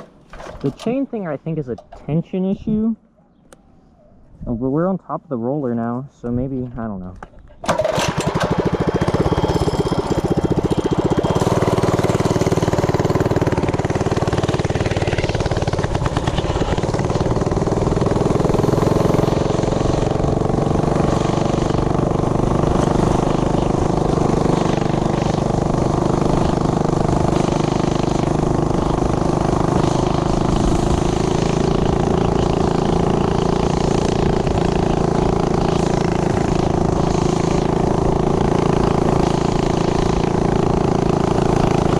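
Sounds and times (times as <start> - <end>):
mini bike engine running: 7.6 - 41.9.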